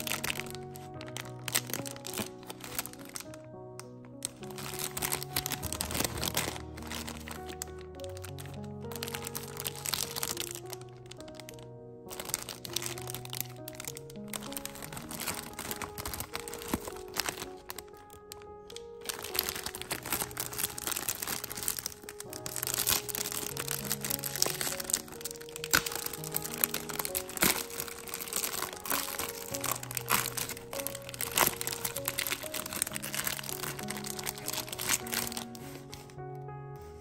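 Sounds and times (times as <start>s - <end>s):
background music with simple melody: 0.0s - 37.0s
plastic wrapper crinkling: 0.0s - 37.0s.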